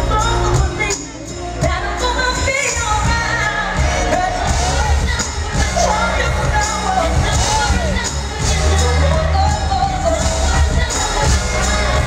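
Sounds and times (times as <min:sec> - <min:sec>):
bass-heavy band playing: 0:00.0 - 0:12.0
woman singing through speakers: 0:00.0 - 0:12.0.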